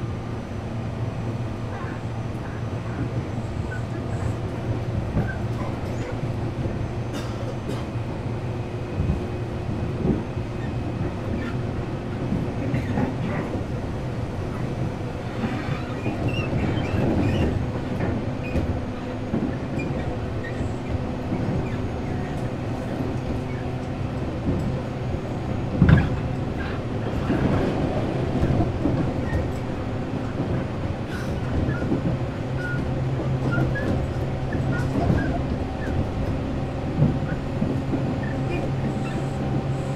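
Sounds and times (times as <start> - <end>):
train rumble and motor hum: 0.0 - 39.9.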